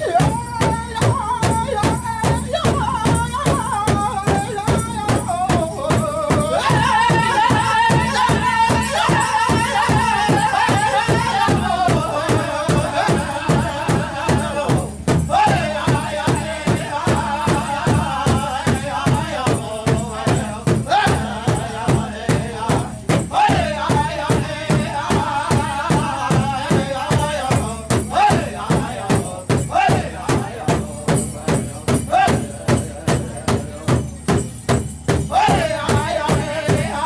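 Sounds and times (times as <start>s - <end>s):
big drum fast beat: 0.0s - 37.0s
group singing in high voices: 2.6s - 33.6s, 35.3s - 37.0s.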